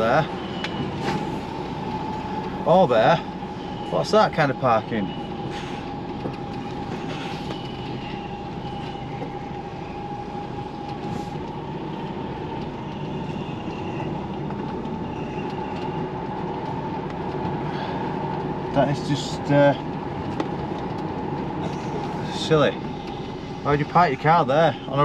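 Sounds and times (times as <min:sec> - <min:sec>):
diesel engine drone from cab: 0:00.0 - 0:25.0
drivetrain whine: 0:00.0 - 0:25.0.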